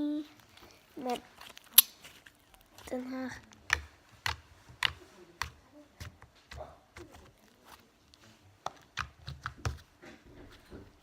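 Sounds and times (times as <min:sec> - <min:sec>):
slime squishing with sticky pops: 0:01.0 - 0:09.9.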